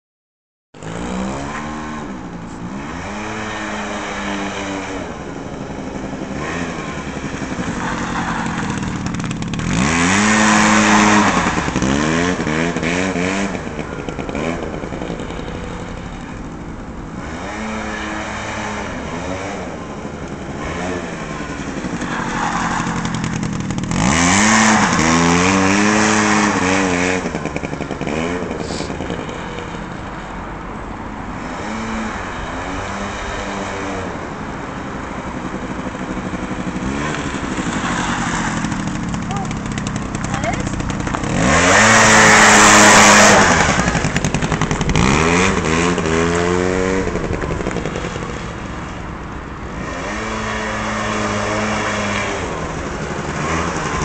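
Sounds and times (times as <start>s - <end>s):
quad bike engine revving: 0.8s - 54.0s.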